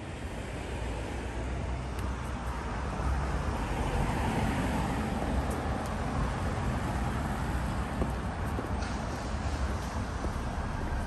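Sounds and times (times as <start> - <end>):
cars passing on street: 0.0 - 11.0.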